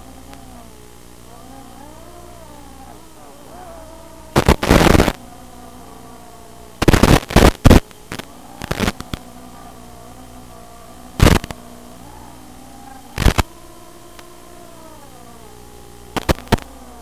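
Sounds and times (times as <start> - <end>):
faint motor whine: 0.0 - 17.0
hissing static bursts: 0.0 - 17.0.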